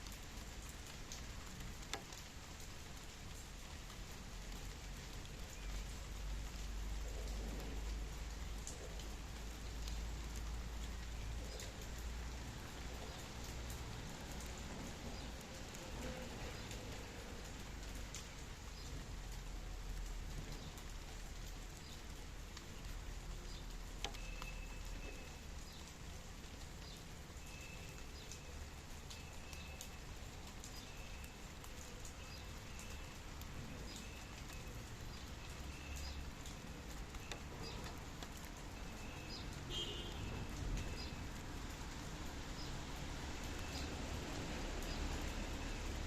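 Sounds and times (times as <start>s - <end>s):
light rain: 0.0s - 46.0s.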